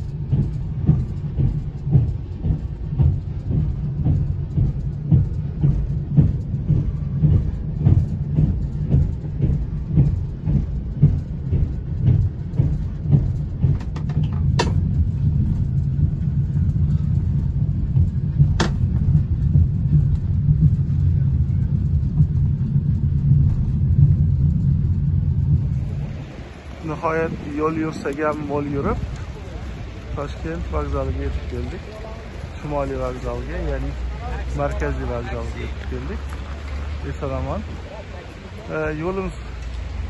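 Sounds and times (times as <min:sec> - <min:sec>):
train rumble inside carriage: 0:00.0 - 0:40.0
wheels clacking over rails: 0:00.0 - 0:40.0.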